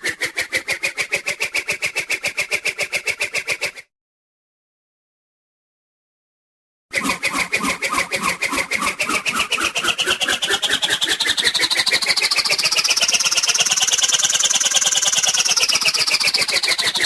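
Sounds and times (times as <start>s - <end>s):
cartoon whoosh fluttering whir: 0.0s - 3.9s, 6.9s - 17.0s.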